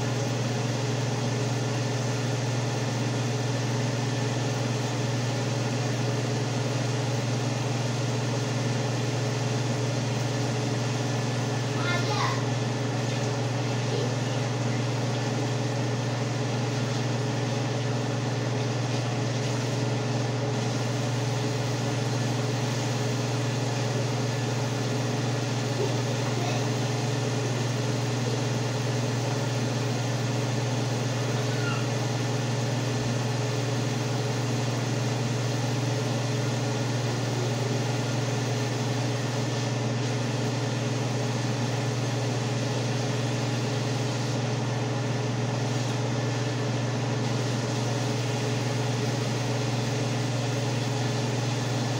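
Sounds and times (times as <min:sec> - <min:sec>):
fan motor humming: 0:00.0 - 0:51.9.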